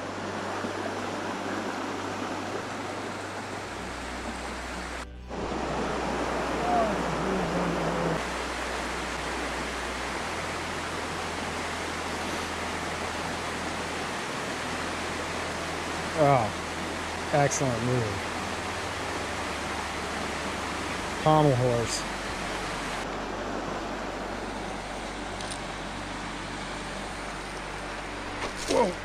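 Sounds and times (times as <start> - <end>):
forest creek flowing water: 0.0 - 29.0.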